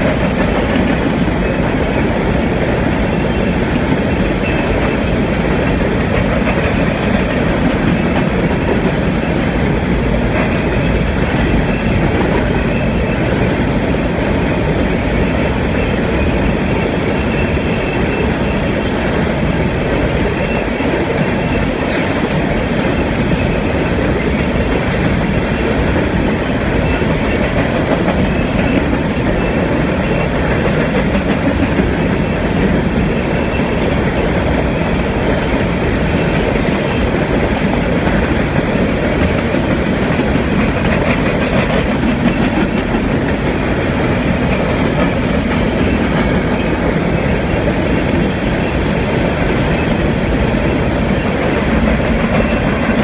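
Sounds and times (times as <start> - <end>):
train cars rolling on rails: 0.0 - 53.0.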